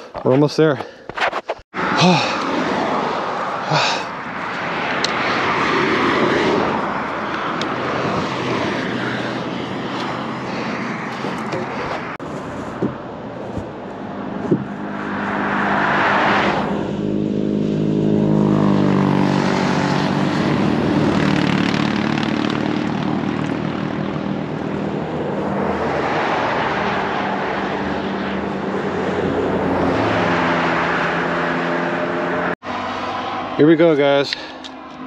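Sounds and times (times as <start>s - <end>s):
vehicles passing on highway: 0.0s - 35.0s
engine hum: 1.7s - 35.0s.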